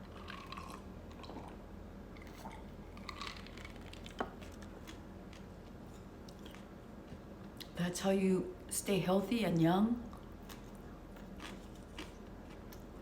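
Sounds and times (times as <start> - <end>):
person chewing close to microphone: 0.0 - 7.8, 10.1 - 13.0.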